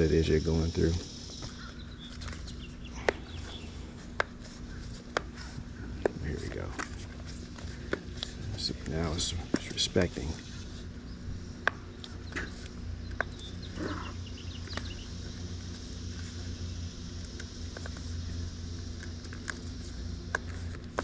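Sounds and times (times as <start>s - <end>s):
steady low hum: 0.0s - 21.0s
bike tire bead clicking and rubbing: 1.3s - 21.0s.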